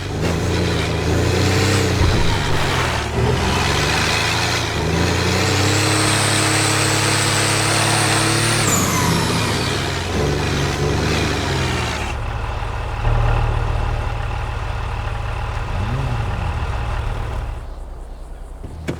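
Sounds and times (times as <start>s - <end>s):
diesel engine revving and idling: 0.0s - 18.9s.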